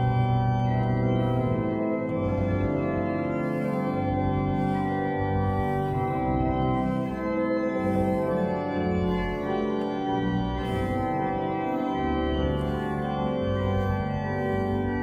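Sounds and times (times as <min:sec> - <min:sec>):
church organ playing chords: 0:00.0 - 0:15.0.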